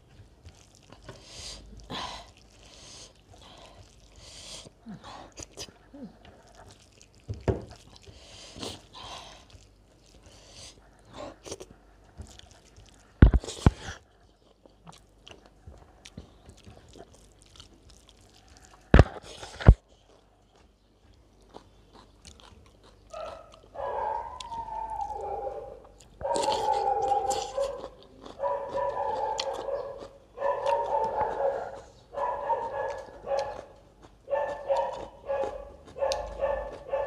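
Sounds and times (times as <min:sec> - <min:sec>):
person chewing with wet smacks: 0:00.0 - 0:37.0.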